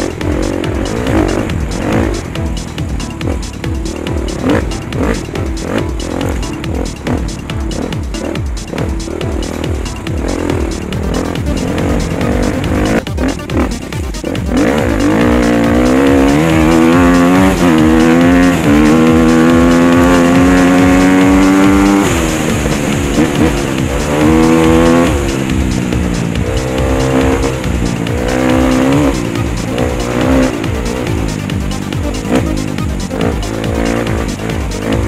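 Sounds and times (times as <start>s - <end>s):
dirt bike engine revving: 0.0s - 35.0s
music with steady beat: 0.0s - 35.0s.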